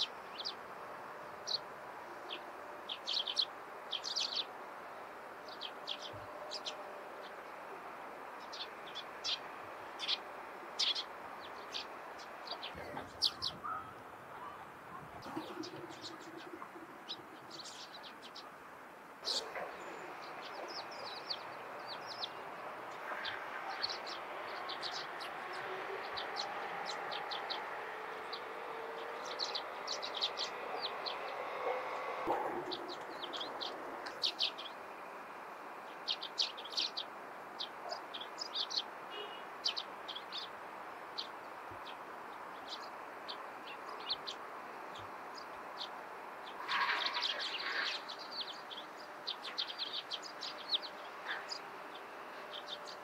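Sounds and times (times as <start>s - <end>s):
small birds chirping: 0.0s - 53.0s
steady background noise: 0.0s - 53.0s.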